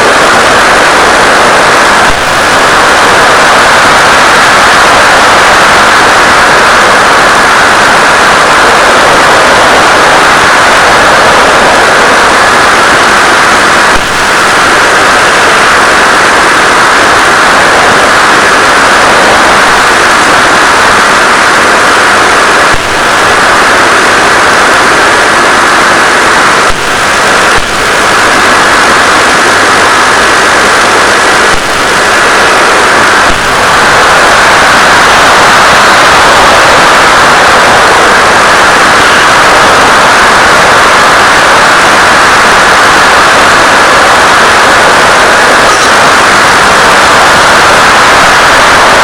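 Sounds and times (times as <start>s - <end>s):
static hiss: 0.0s - 49.0s.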